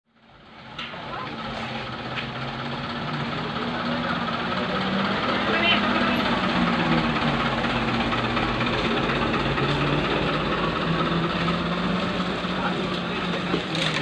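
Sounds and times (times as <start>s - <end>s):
diesel truck engine at low revs: 0.1s - 14.0s.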